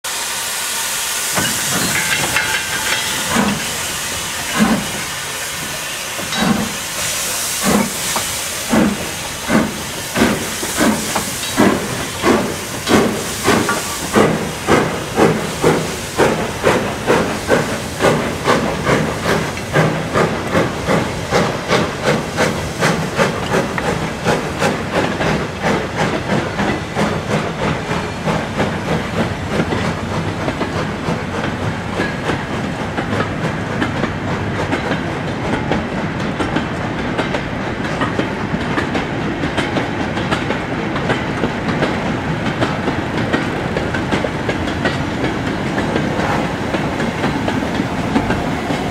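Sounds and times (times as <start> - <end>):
steam hissing: 0.1 - 48.9.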